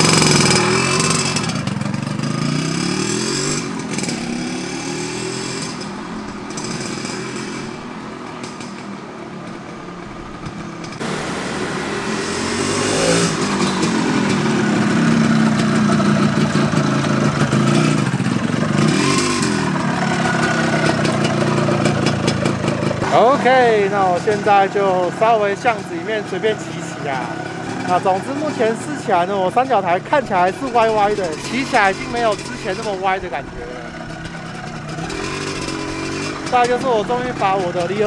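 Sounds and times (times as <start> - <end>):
motorcycle revving: 0.0 - 38.0.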